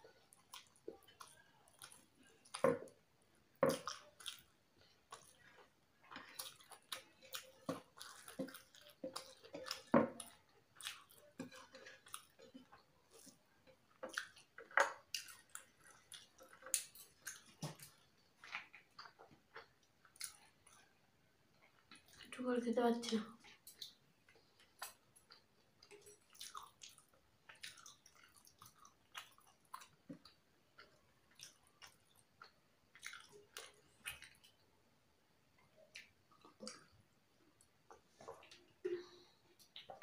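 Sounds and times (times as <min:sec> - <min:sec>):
wet chewing and lip smacks: 0:00.0 - 0:03.0, 0:03.7 - 0:21.0, 0:23.4 - 0:34.6, 0:35.6 - 0:38.9.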